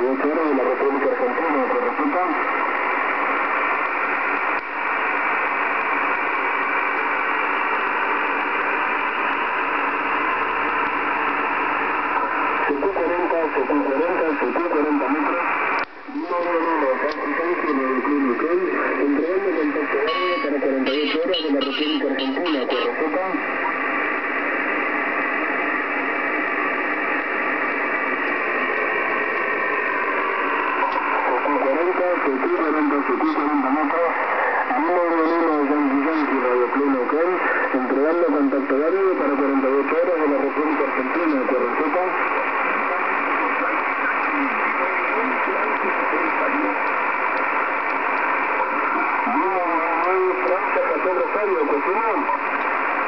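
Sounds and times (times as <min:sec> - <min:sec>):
radio receiver hiss: 0:00.0 - 0:53.0.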